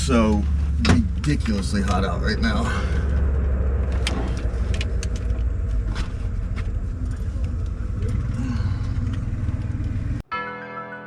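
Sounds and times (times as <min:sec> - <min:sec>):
car engine running: 0:00.0 - 0:10.2.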